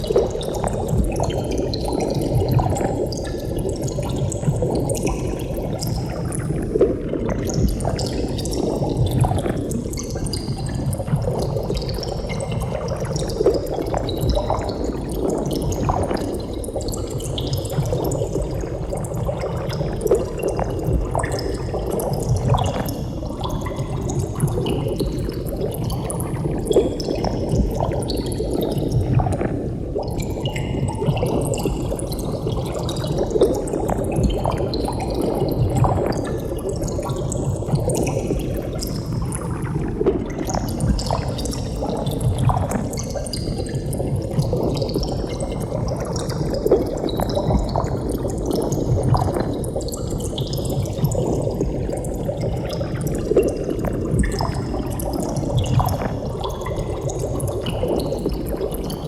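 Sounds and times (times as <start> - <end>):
water bubbling: 0.0 - 59.0.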